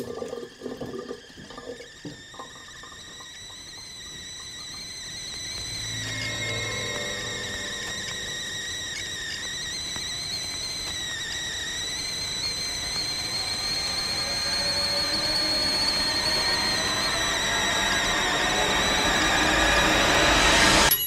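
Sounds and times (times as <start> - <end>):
kettle whistling: 0.0 - 21.0.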